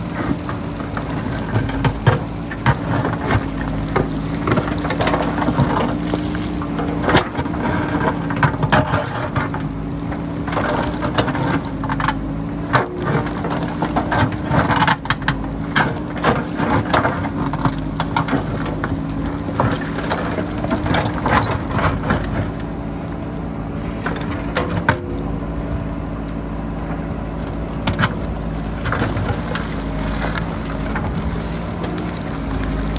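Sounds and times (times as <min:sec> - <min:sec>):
bucket scraping rocky ground: 0:00.0 - 0:32.9
diesel engine running under load: 0:00.0 - 0:32.9
wind rumble on microphone: 0:00.0 - 0:32.9.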